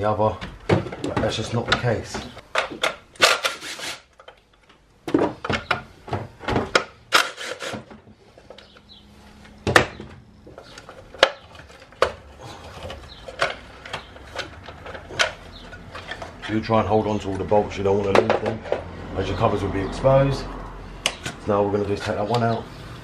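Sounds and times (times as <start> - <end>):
clicks and knocks of handled parts: 0.4 - 19.0, 21.0 - 22.6.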